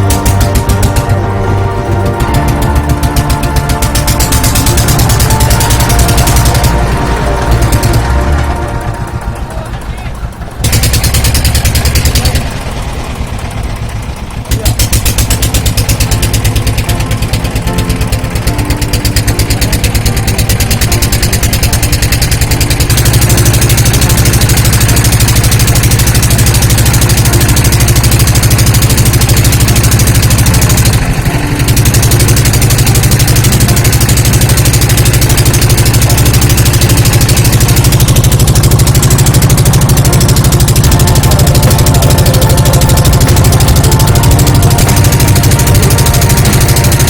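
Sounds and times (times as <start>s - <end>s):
motor boat engine chugging: 0.0s - 47.0s.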